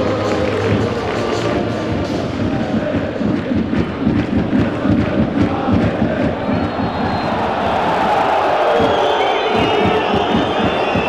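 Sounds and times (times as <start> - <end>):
crowd roar: 0.0 - 11.0
crowd singing a chant: 0.0 - 11.0.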